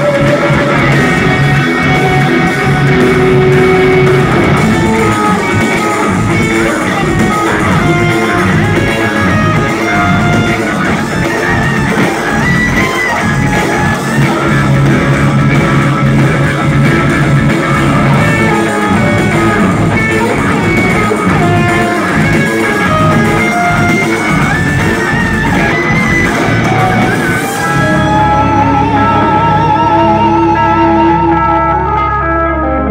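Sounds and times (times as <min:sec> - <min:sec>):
live progressive metal band: 0:00.0 - 0:32.9.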